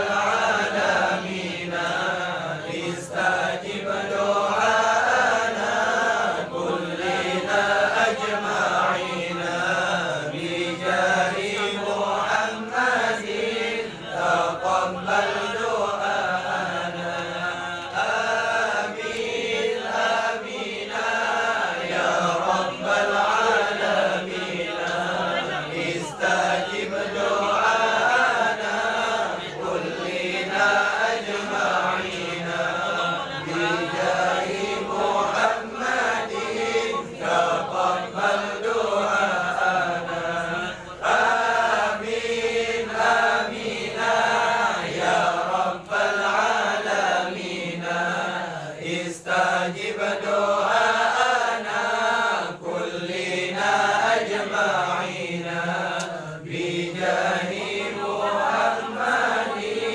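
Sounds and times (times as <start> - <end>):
men chanting together: 0.0 - 59.9.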